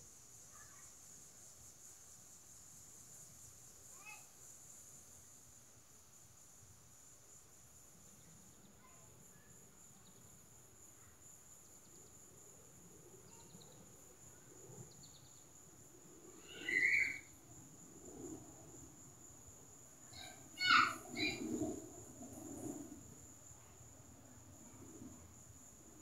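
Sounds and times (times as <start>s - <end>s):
insect drone: 0.0s - 26.0s.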